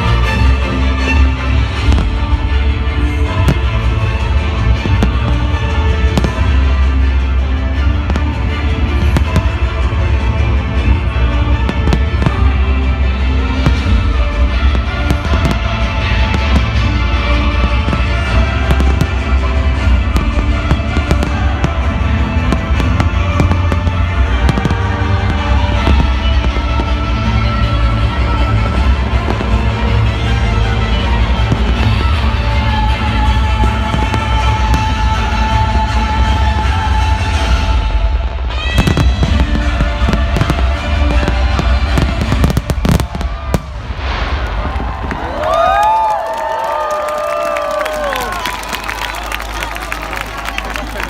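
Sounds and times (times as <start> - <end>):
fireworks bangs and crackles: 0.0 - 48.5
crowd cheering: 0.0 - 51.0.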